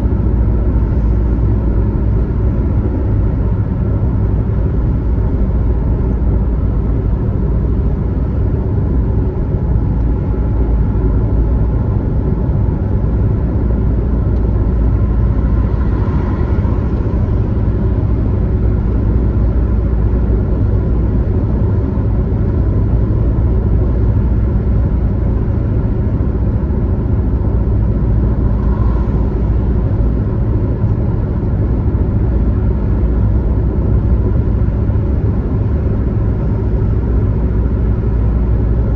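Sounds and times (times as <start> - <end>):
car driving on highway: 0.0 - 38.9.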